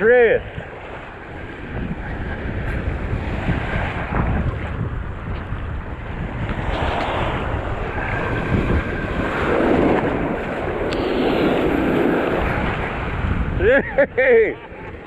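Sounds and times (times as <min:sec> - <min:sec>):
surf washing in: 0:00.0 - 0:15.0
wind buffeting microphone: 0:00.0 - 0:15.0.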